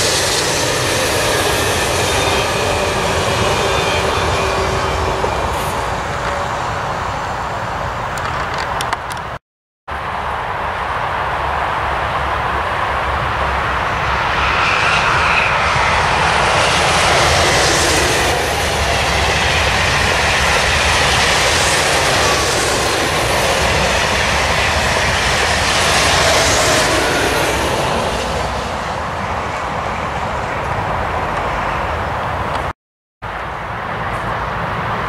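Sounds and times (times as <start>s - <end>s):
high-speed train passing: 0.0s - 35.0s.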